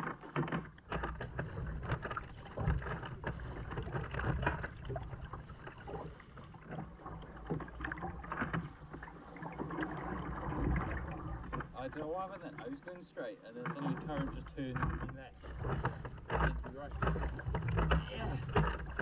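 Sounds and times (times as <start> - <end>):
paddle strokes splashing: 0.0 - 19.0
water lapping against hull: 0.0 - 19.0.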